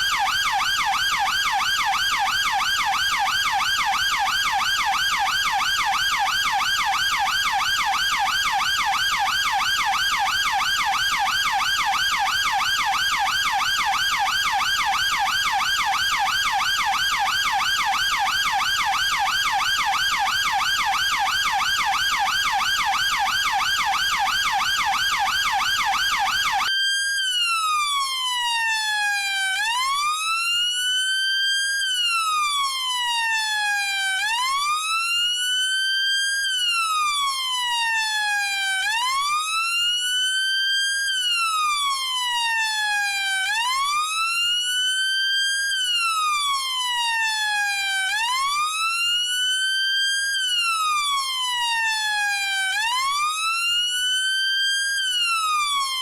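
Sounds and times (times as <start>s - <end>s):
police siren: 0.0s - 56.0s.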